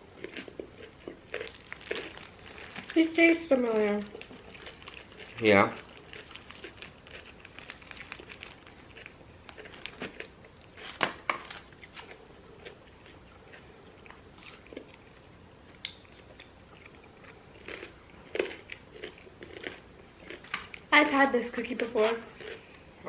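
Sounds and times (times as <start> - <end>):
chewing and biting food: 0.0 - 3.2, 4.0 - 20.9, 22.1 - 22.8.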